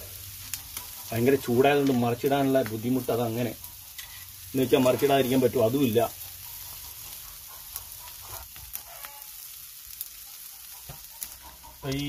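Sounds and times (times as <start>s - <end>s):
chicken sizzling on grill: 0.0s - 12.0s.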